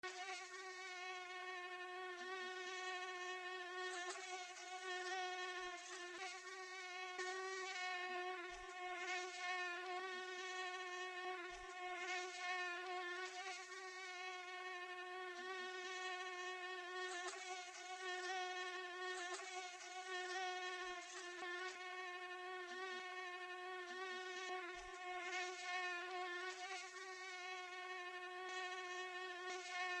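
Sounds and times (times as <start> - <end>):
mosquito wing buzz: 0.0 - 30.0.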